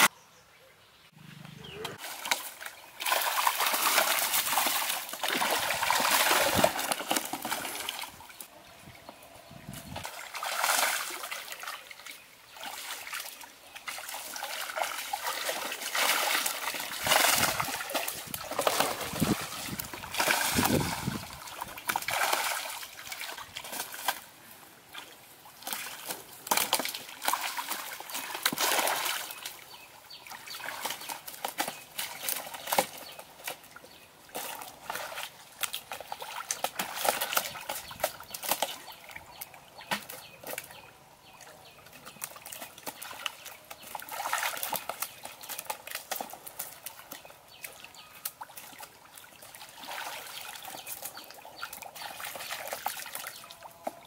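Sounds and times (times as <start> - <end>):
pond water splashing: 1.2 - 54.0.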